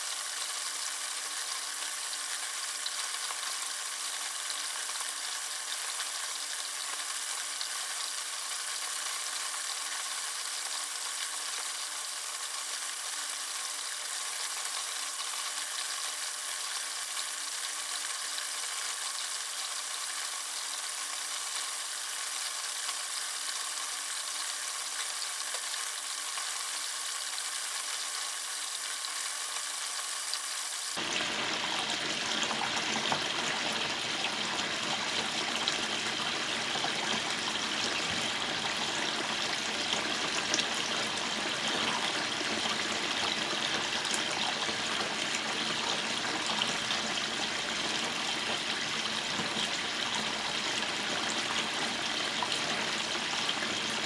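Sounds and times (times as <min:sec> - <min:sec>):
small waterfall running: 0:00.0 - 0:54.0.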